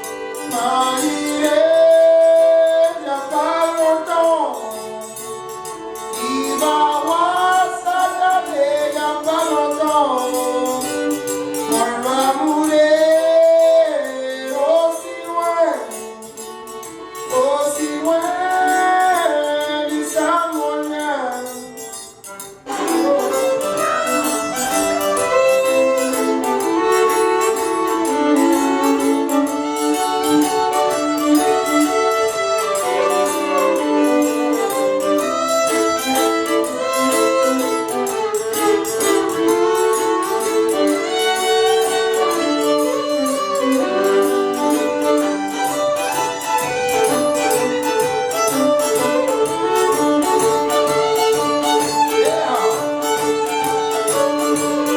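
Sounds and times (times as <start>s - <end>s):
person singing: 0.0s - 16.2s, 17.1s - 54.9s
fiddles playing: 0.0s - 54.9s.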